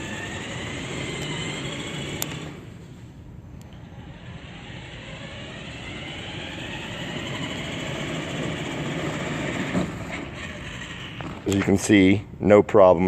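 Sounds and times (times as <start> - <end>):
motorized cooler wheels rumbling: 0.0 - 3.1, 3.7 - 12.2.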